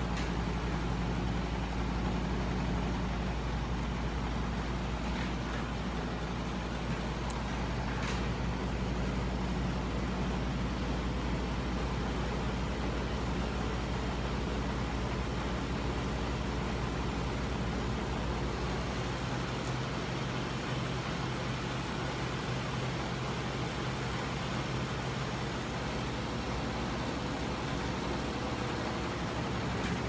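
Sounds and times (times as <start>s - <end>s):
machine running hum: 0.0s - 30.0s.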